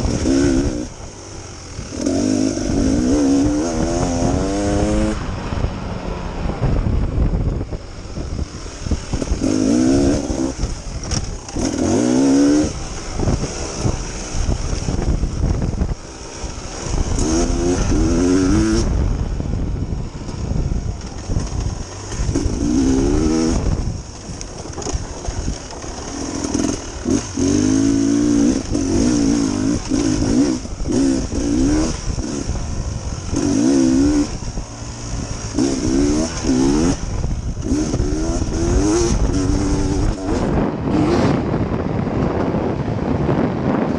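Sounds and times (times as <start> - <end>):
dirt bike engine revving: 0.0 - 5.7, 6.5 - 19.4, 20.3 - 42.7.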